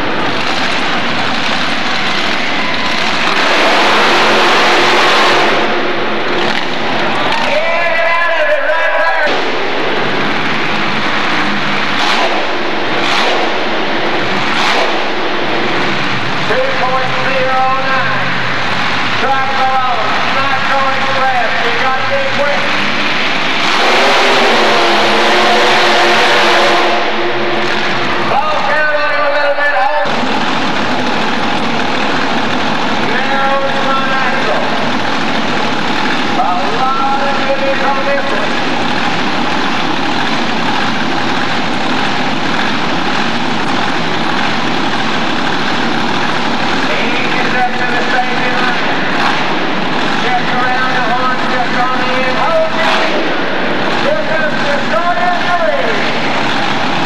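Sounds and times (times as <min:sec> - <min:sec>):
buggy engine at high revs: 0:00.0 - 0:57.0.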